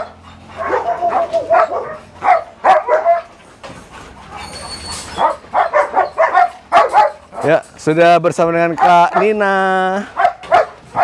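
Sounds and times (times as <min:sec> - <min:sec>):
dogs barking and yelping: 0:00.0 - 0:07.8, 0:08.6 - 0:11.0.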